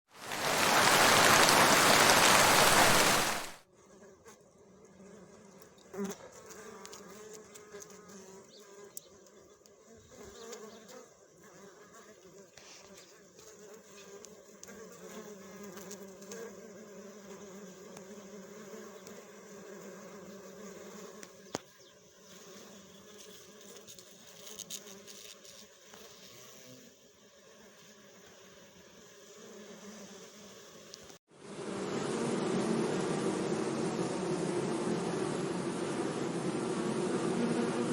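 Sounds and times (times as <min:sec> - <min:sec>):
bees buzzing: 0:00.1 - 0:03.6, 0:04.4 - 0:37.9.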